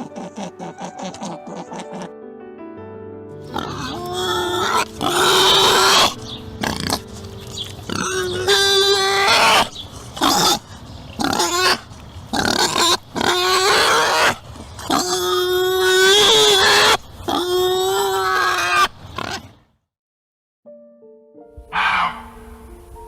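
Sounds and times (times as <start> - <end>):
animal calling: 0.0 - 2.1, 3.5 - 19.6, 21.7 - 22.6.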